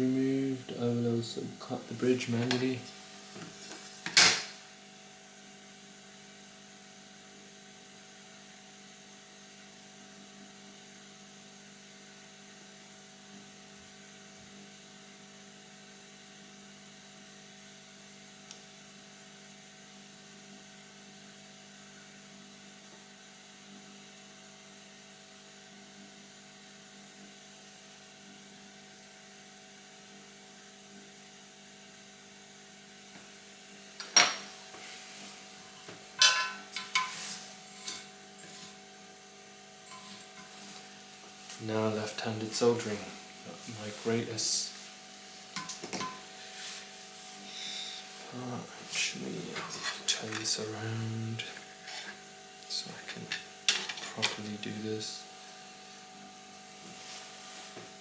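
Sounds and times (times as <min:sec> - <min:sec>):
electrical hum and whir: 0:00.0 - 0:29.4, 0:30.0 - 0:58.0.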